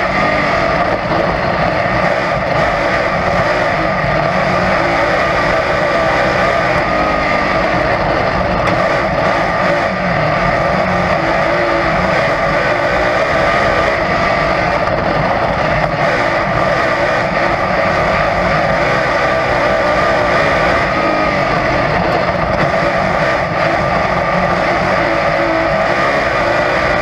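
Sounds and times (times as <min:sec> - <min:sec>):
race car engine running hard: 0:00.0 - 0:27.0.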